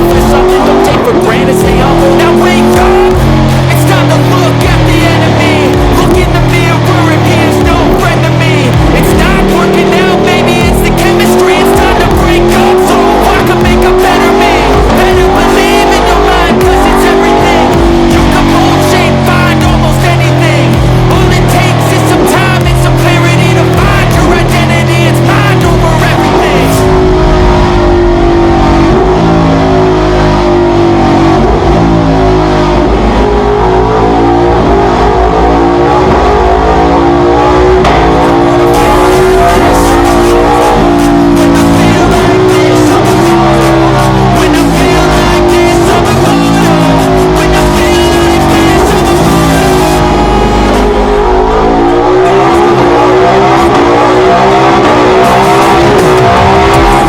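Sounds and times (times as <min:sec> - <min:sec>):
motorcycle engine running hard: 0:00.0 - 0:57.0.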